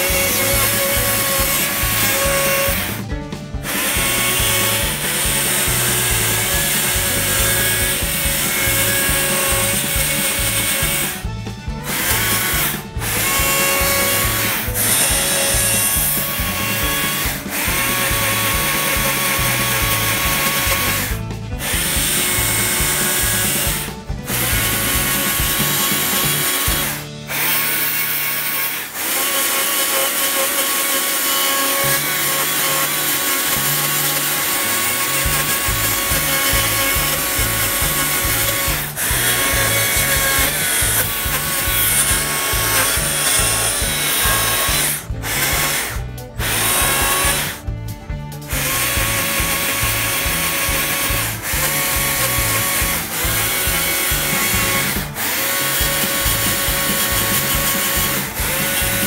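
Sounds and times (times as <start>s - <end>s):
background music: 0.0s - 59.0s
chainsaw cutting log: 0.0s - 59.0s.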